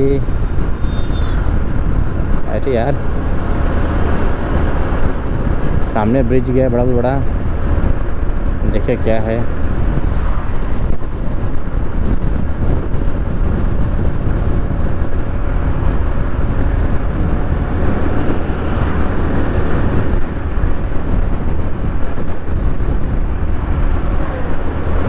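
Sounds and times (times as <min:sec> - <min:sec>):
road noise: 0:00.0 - 0:25.0
wind rumble on microphone: 0:00.0 - 0:25.0.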